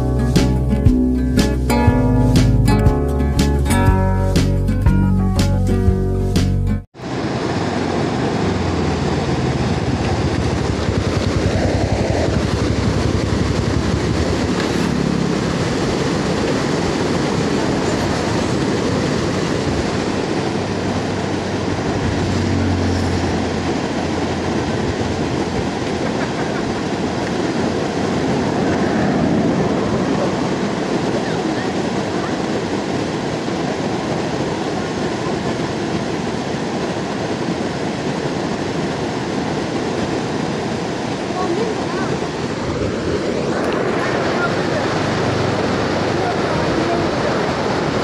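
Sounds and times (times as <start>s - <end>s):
river water rushing: 7.0s - 48.0s.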